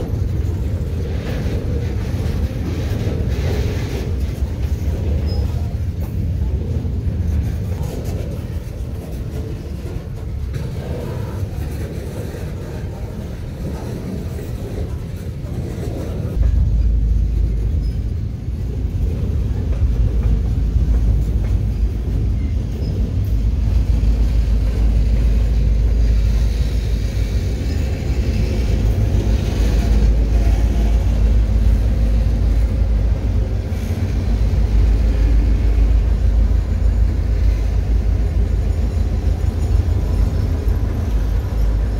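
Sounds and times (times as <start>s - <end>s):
deeper rumble: 0.0s - 41.9s
diesel locomotives passing: 0.0s - 41.9s
freight cars rolling on track: 0.0s - 41.9s.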